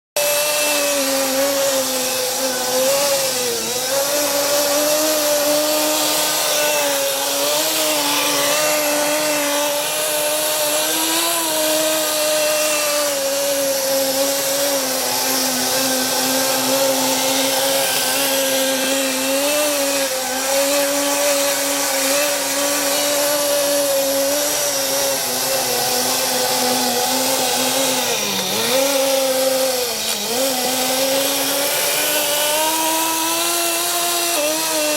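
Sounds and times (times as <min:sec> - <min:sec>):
small nitro engine buzzing whine: 0:00.2 - 0:34.9.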